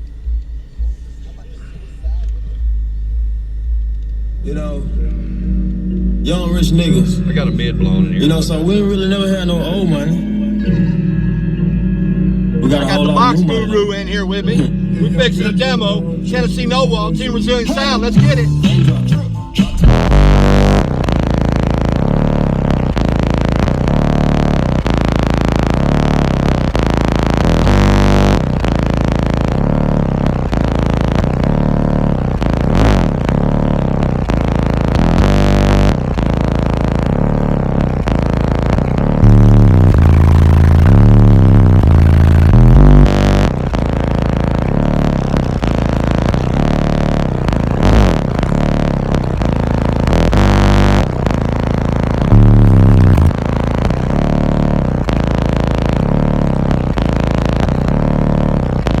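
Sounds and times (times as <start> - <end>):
bass-heavy music through subwoofers: 0.0 - 59.0
gliding bass note: 2.1 - 59.0.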